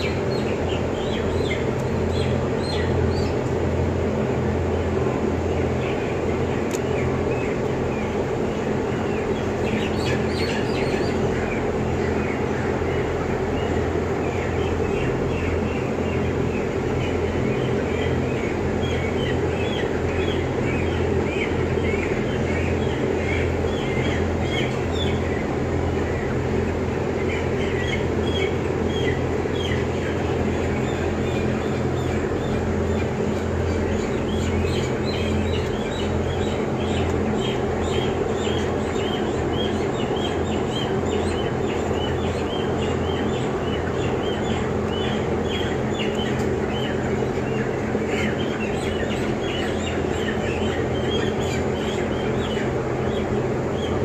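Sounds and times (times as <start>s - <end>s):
blower fans humming: 0.0s - 54.0s
chickens peeping: 0.0s - 54.0s.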